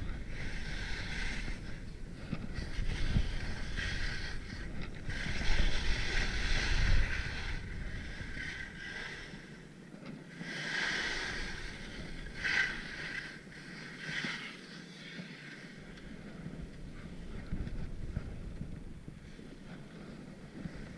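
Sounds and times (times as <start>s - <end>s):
skis scraping over snow: 0.0s - 20.9s
wind rumble on microphone: 0.0s - 20.9s.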